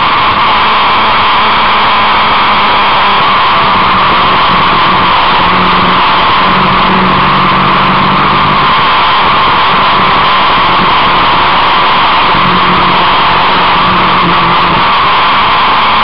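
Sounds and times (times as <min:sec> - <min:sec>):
wind and engine roar: 0:00.0 - 0:16.0.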